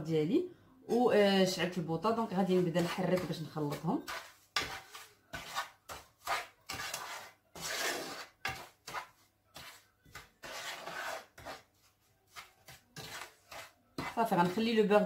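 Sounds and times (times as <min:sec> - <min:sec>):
wooden spoon scraping a pan: 0:02.1 - 0:15.0.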